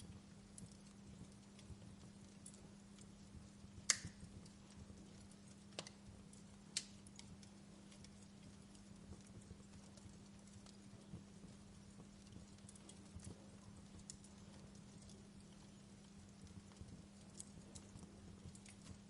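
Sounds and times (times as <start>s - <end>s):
faint steady hum: 0.0s - 19.0s
wood fire crackling: 0.0s - 19.0s.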